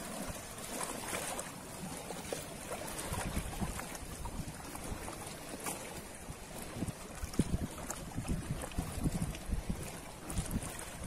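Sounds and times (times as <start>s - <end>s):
ocean waves washing on shore: 0.0s - 11.0s.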